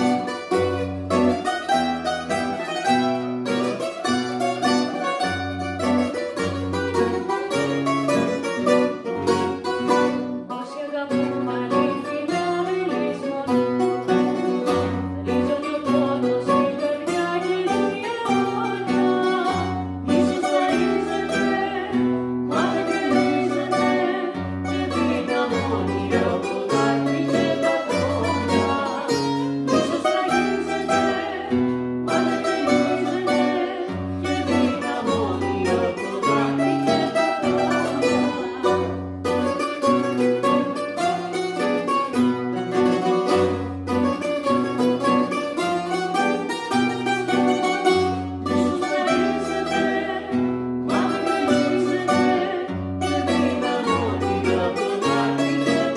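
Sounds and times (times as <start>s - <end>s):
acoustic guitar chords: 0.0s - 55.9s
plucked bouzouki lines: 0.0s - 55.9s.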